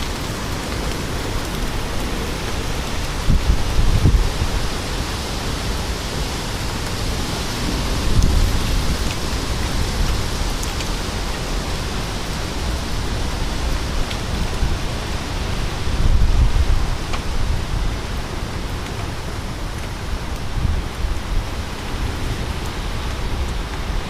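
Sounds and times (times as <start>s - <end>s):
rain and wind rushing: 0.0s - 24.0s.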